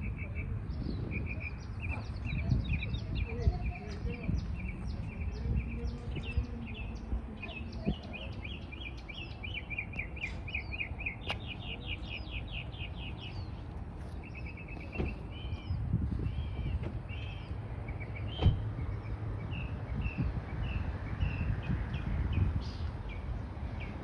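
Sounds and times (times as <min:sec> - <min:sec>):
low background rumble: 0:00.0 - 0:24.0
songbird chirping: 0:00.0 - 0:24.0.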